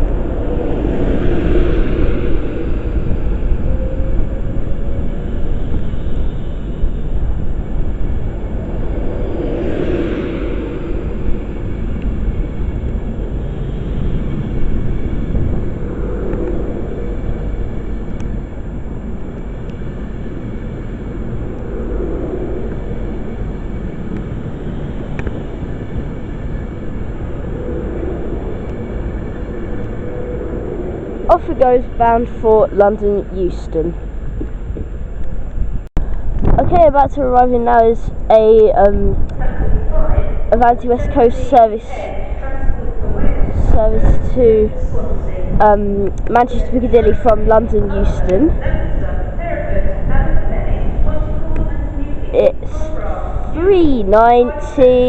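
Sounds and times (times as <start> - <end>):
electric train rumbling on rails: 0.0 - 55.0
faint rising whine: 0.0 - 55.0.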